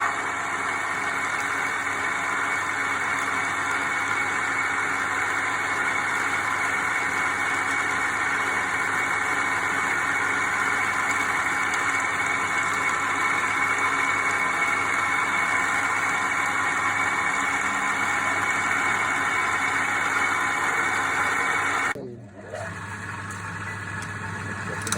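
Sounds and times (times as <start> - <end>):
wood lathe running: 0.0 - 24.9.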